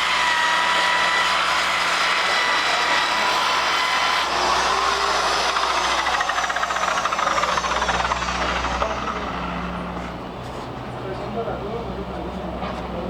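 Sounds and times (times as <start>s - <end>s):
power tool rasping on surface: 0.0s - 10.6s.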